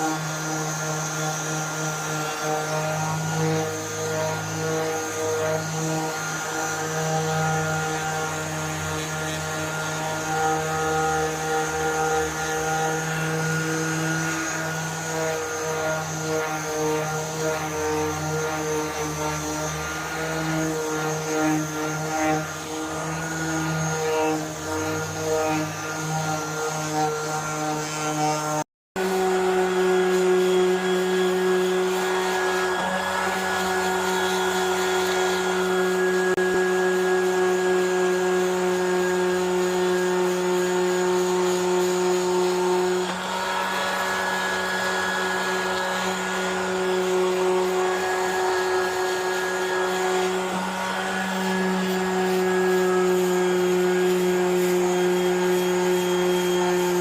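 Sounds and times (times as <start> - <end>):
electric sander on metal: 0.0 - 57.0.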